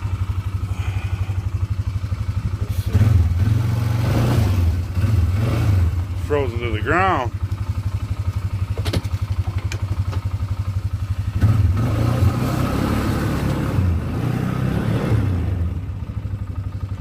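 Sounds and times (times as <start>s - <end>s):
atv engine idling and revving: 0.0s - 17.0s.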